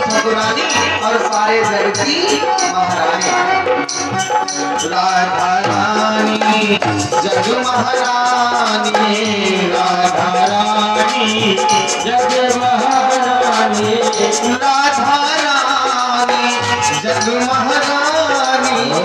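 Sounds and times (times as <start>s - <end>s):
drum and shaker percussion: 0.0s - 19.0s
harmonium playing chords: 0.0s - 19.0s
man singing: 0.0s - 19.0s.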